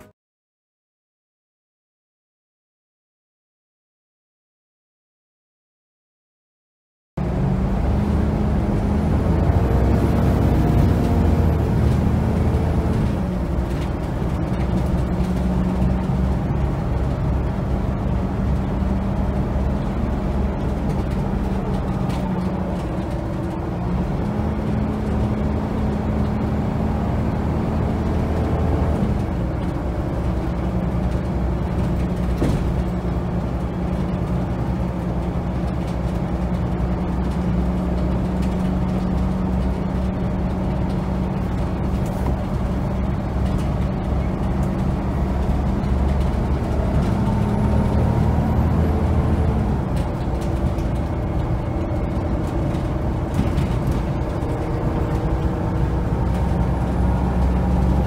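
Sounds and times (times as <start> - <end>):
bus diesel engine running: 7.2 - 58.0.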